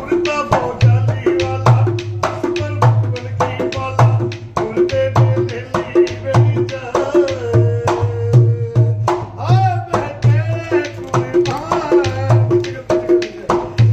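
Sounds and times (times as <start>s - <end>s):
hand drum beating: 0.0s - 13.9s.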